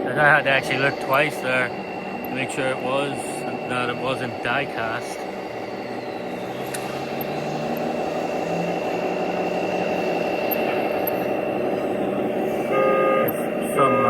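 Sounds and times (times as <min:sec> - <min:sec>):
constant high whine: 0:00.0 - 0:14.0
machine running: 0:00.0 - 0:14.0.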